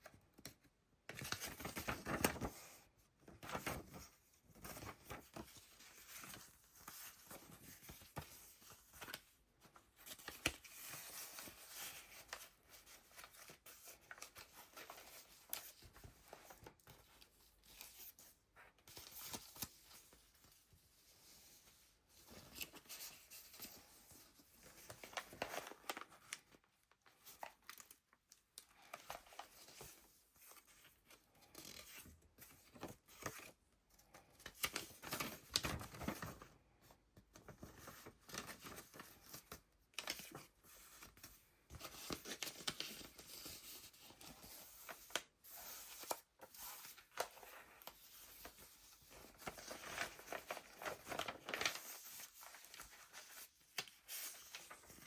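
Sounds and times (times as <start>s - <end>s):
paper rustling and crinkling: 1.1s - 55.0s.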